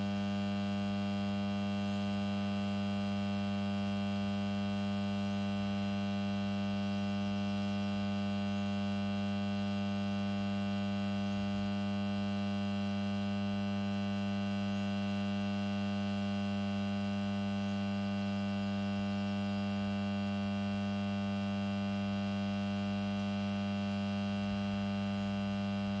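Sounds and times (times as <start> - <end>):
power transformer humming: 0.0 - 26.0.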